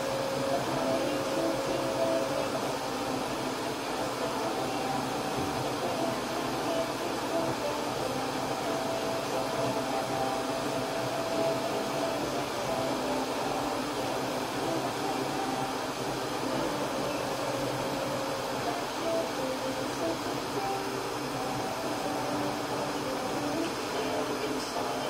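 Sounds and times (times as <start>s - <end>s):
fans whirring hum: 0.0s - 25.0s.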